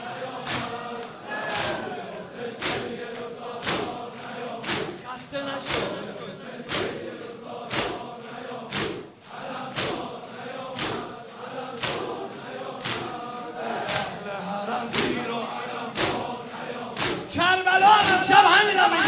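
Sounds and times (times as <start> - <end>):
crowd chanting a dirge: 0.0 - 19.0.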